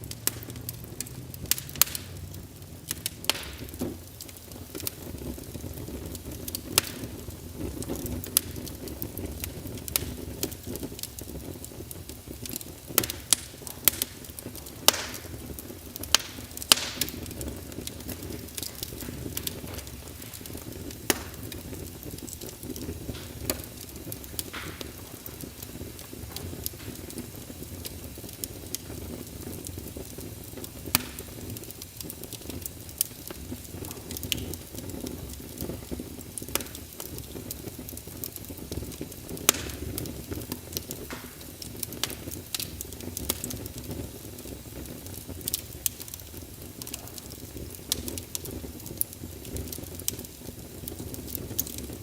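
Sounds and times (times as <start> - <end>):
fire crackling: 0.0 - 52.0.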